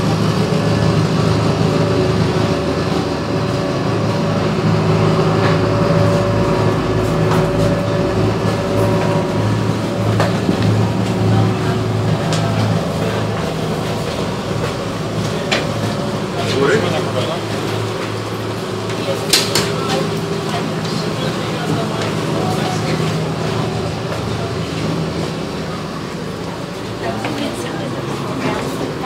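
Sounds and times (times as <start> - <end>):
diesel engine drone: 0.0 - 29.0.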